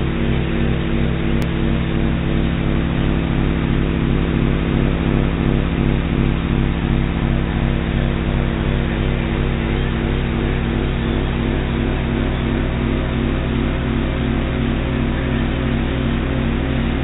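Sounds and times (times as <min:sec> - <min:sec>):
low sustained drone tones: 0:00.0 - 0:17.0.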